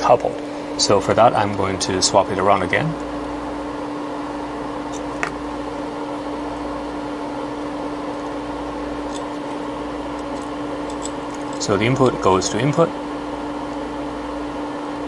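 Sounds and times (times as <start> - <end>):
equipment fan hum: 0.0 - 15.0.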